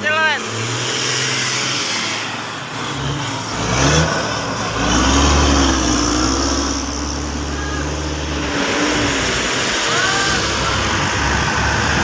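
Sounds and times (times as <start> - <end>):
bus driving past: 0.0 - 12.0
traffic engine hum: 0.0 - 12.0.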